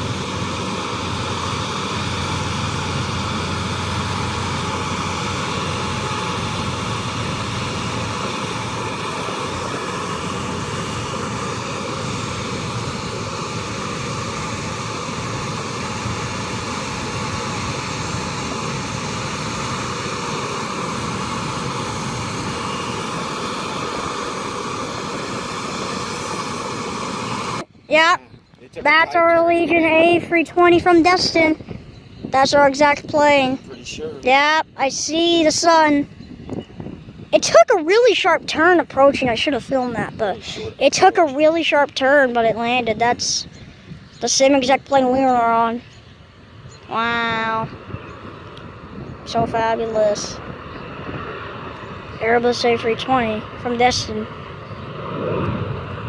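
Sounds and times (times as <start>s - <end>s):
jet engine drone: 0.0s - 56.0s.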